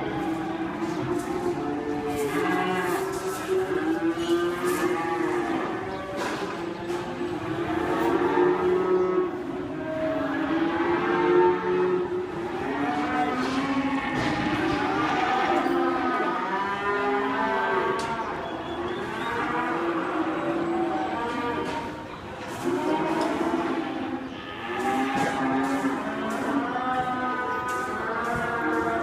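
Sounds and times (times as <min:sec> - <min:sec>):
cattle mooing: 0:00.0 - 0:29.0.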